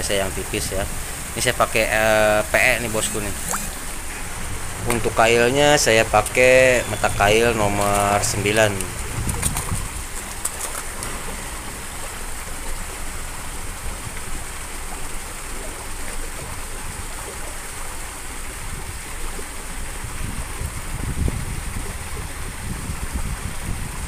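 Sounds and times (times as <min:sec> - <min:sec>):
water splashing against rocks: 0:00.0 - 0:22.6.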